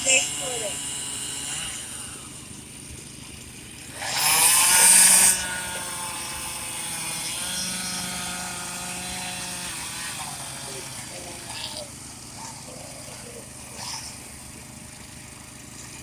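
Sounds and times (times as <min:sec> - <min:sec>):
chainsaw revving: 0:00.0 - 0:16.0
engines running steadily: 0:00.0 - 0:16.0.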